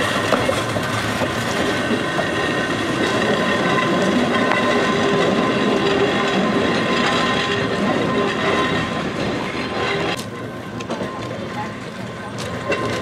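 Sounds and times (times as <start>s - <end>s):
thin steady whine: 0.0s - 13.0s
train wheels clattering on rails: 0.0s - 13.0s.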